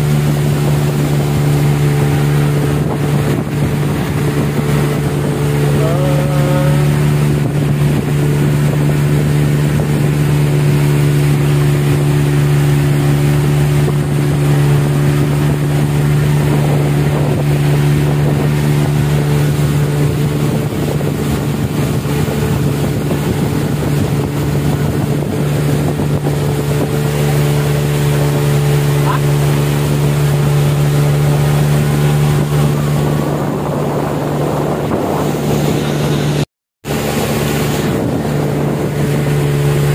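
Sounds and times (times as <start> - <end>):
boat engine droning: 0.0 - 39.9
water rushing past hull: 0.0 - 39.9.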